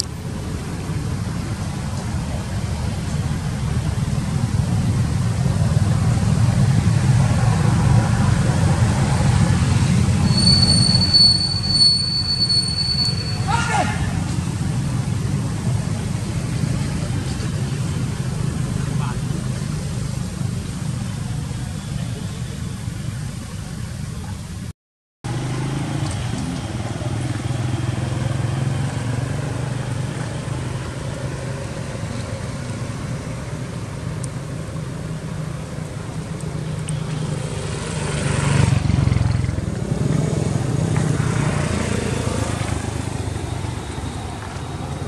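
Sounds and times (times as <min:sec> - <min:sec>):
road traffic engine rumble: 0:00.0 - 0:45.0.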